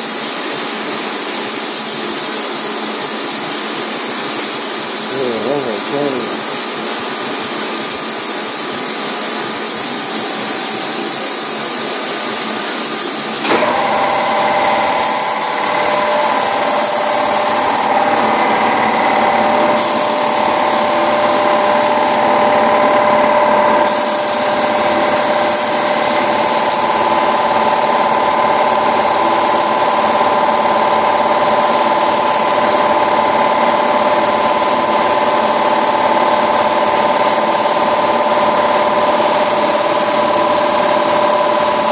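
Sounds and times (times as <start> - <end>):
paint spray gun hissing: 0.0 - 22.8, 23.8 - 41.9.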